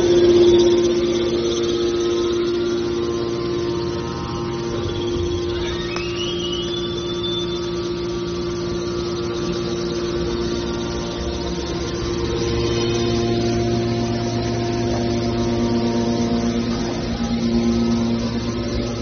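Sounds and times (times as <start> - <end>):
faint rising whine: 0.0 - 19.0
hydraulic pump motor hum: 0.0 - 19.0.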